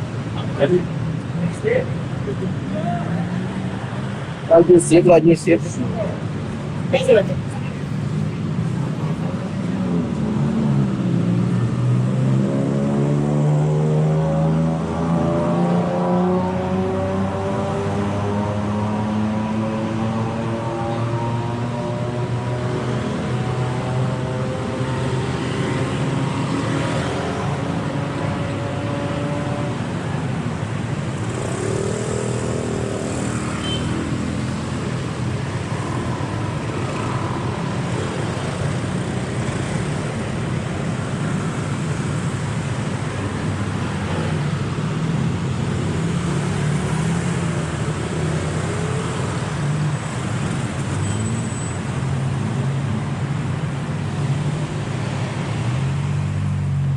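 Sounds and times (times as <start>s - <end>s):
city traffic passing: 0.0s - 56.9s.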